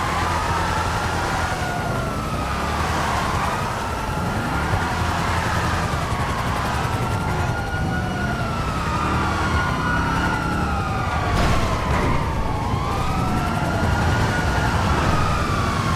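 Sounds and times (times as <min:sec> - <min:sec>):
engine and road rumble: 0:00.0 - 0:15.9
police sirens wailing: 0:00.0 - 0:15.9.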